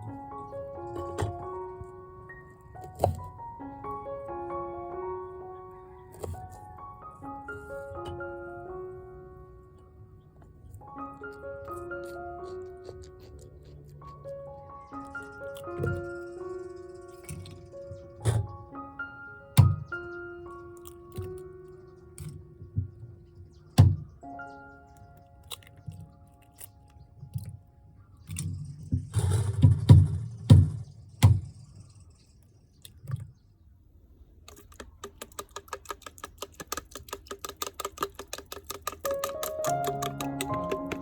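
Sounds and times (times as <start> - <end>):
soft melodic background music: 0.0 - 30.9, 34.5 - 41.0.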